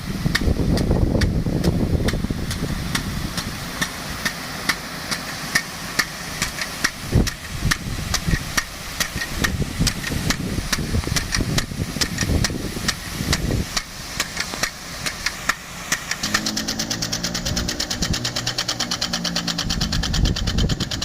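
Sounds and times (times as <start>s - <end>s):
pump engine rumble: 0.0s - 21.0s
sprinkler knocking: 0.0s - 21.0s
water spray: 0.0s - 21.0s.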